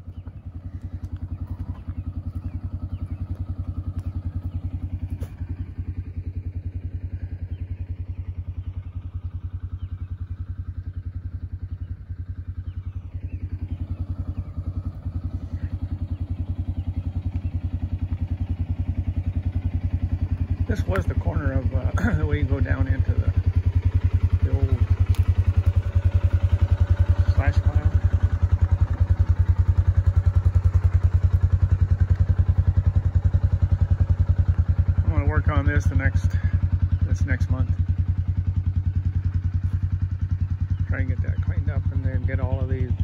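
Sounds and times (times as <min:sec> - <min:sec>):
utility vehicle engine idling: 0:00.0 - 0:43.0.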